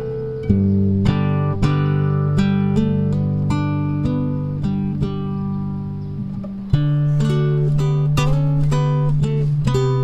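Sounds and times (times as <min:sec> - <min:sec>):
strummed acoustic guitar chords: 0:00.0 - 0:10.0.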